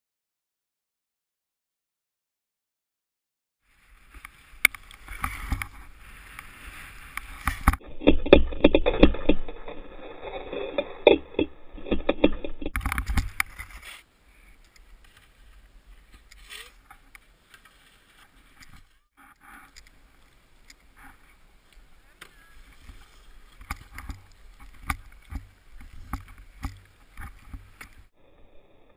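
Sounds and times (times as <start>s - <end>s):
skis scraping over snow: 3.6s - 28.1s.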